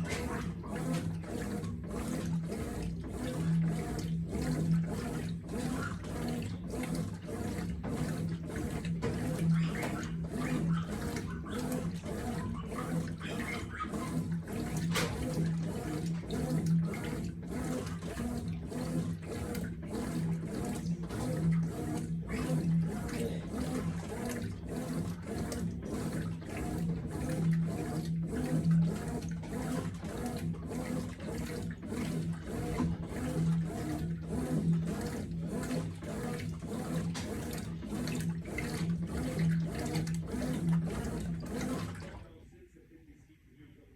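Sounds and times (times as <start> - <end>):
water and clothes sloshing: 0.0 - 42.4
washing machine motor hum: 0.0 - 42.6.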